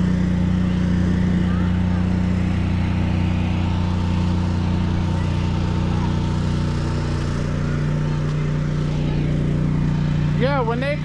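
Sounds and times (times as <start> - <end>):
engine droning hum: 0.0 - 11.0.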